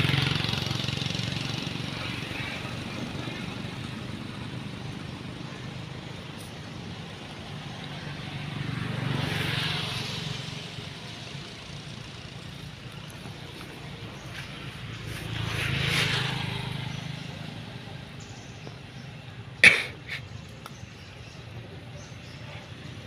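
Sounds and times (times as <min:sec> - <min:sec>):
low engine hum: 0:00.0 - 0:19.6
vehicles passing by: 0:00.0 - 0:23.0.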